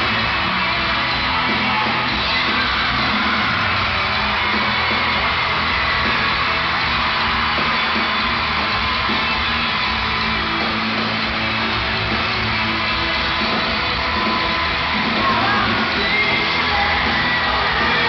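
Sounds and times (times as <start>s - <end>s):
crowd screaming and cheering: 0.0s - 18.0s
live rock band playing: 0.0s - 18.0s.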